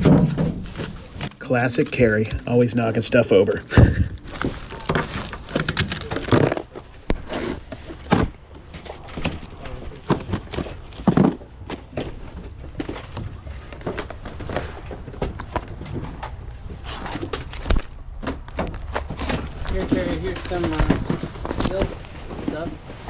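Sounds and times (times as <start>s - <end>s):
cardboard boxes being shifted: 3.7s - 23.0s.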